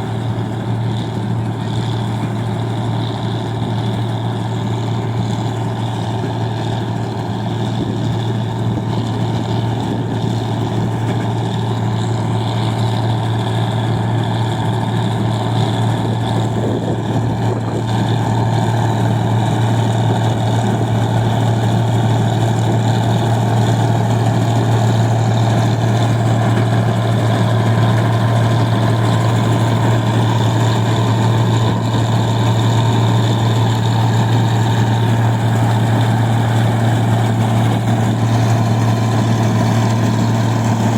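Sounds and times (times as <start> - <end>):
machine engine droning: 0.0 - 40.9.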